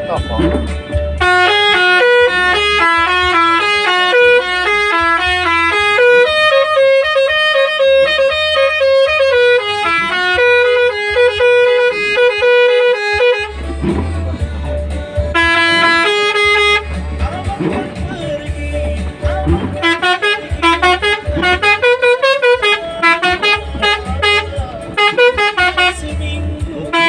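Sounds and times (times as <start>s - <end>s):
musical air horns playing tune: 0.1s - 14.4s, 15.2s - 27.0s.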